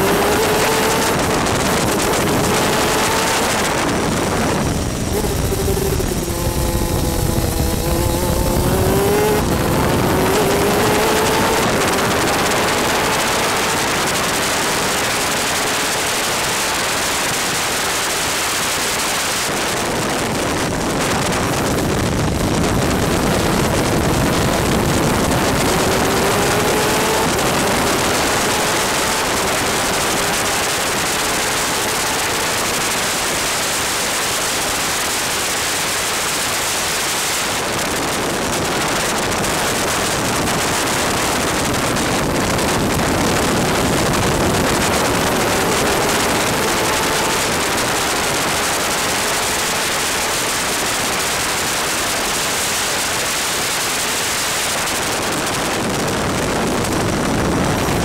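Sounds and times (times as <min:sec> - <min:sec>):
two-stroke engine accelerating: 0:00.0 - 0:58.0
wind and rain noise on microphone: 0:00.0 - 0:58.0.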